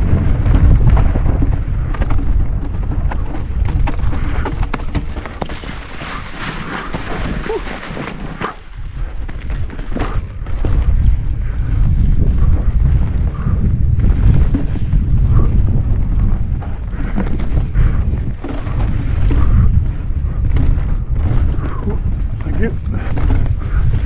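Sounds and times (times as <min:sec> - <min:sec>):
bike knocks and rattles: 0:00.0 - 0:24.0
wind rumbling on microphone: 0:00.0 - 0:24.0.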